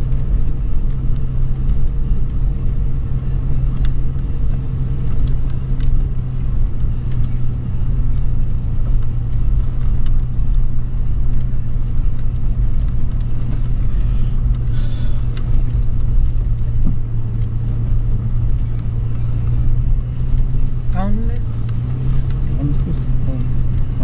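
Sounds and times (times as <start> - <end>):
car engine drone from cabin: 0.0 - 24.0.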